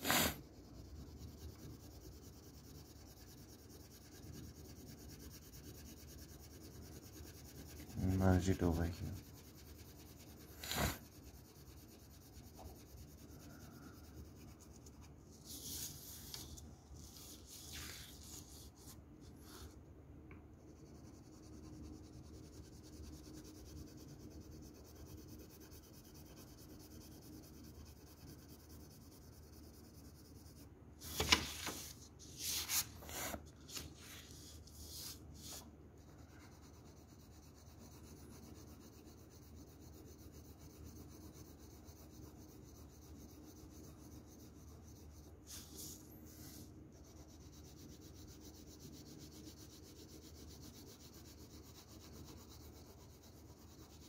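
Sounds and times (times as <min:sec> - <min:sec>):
pencil rubbing on paper: 0:00.0 - 0:19.8, 0:20.6 - 0:54.0
scratchy pencil strokes: 0:00.0 - 0:19.8, 0:20.5 - 0:54.0.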